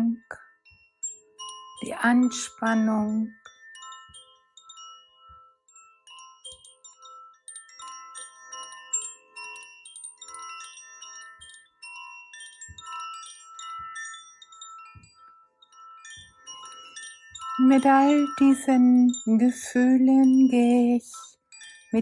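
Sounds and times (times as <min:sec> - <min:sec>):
wind chimes ringing: 0:00.0 - 0:22.0.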